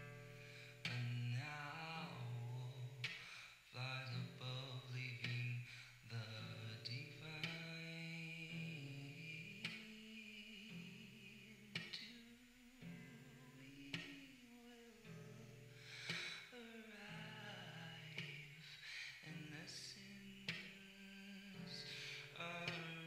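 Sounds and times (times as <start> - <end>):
low voice singing held notes: 0.0 - 23.0.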